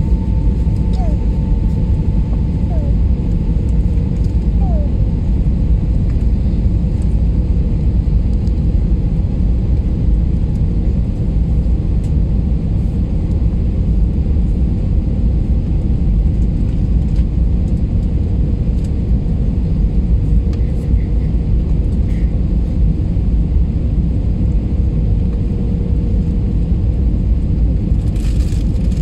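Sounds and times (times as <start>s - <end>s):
airliner engine and airflow rumble: 0.0s - 29.0s.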